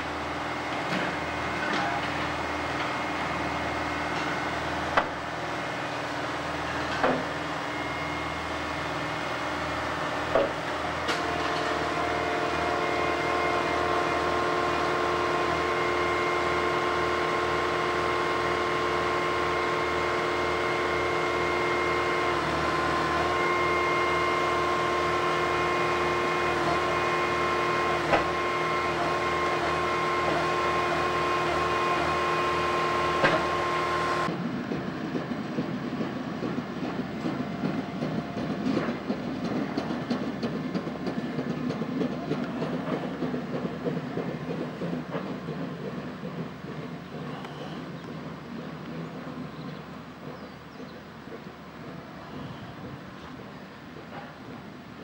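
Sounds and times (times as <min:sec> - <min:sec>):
excavator engines running: 0:00.0 - 0:55.0
steel rails howling: 0:00.0 - 0:55.0.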